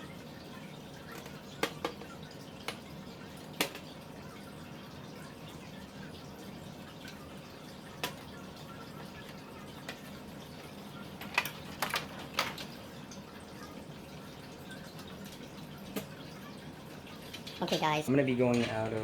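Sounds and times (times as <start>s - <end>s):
low room hiss: 0.0s - 19.0s.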